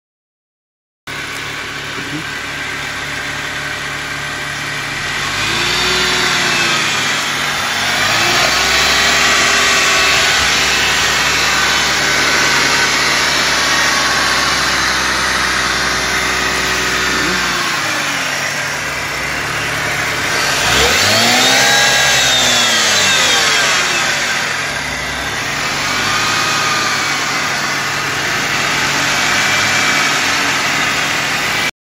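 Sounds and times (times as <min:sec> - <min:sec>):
car engine idling and revving: 0:01.1 - 0:31.7
metallic grinding noise: 0:05.0 - 0:31.7.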